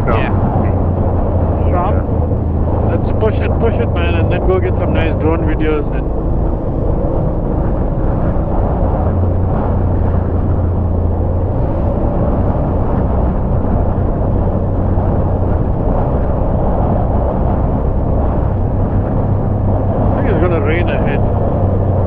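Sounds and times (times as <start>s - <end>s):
motorcycle engine drone: 0.0s - 22.0s
wind rush: 0.0s - 22.0s.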